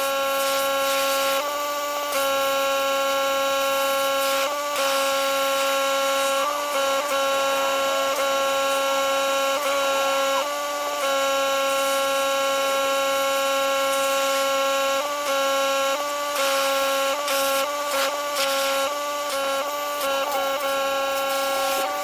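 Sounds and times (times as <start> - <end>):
pressure washer whining: 0.0 - 22.0.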